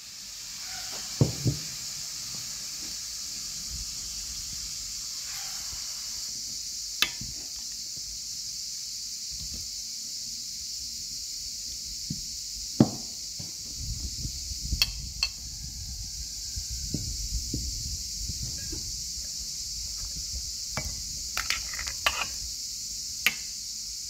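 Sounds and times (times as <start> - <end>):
food sizzling in a pan: 0.0 - 9.8, 10.4 - 24.0.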